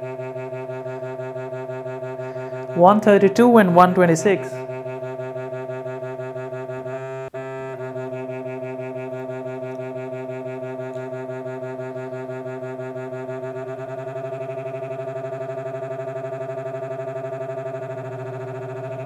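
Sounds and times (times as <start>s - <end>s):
beating test tones drone: 0.0s - 19.0s.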